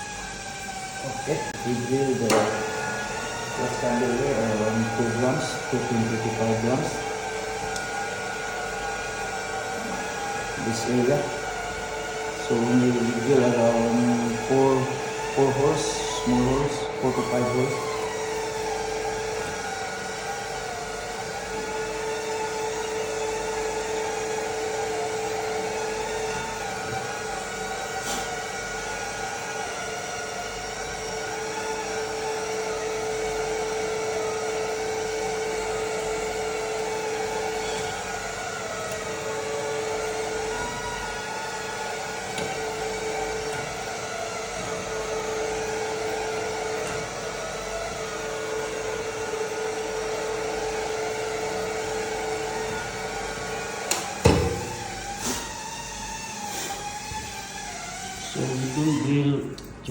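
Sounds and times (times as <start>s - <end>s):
electric drill running: 0.0s - 59.4s.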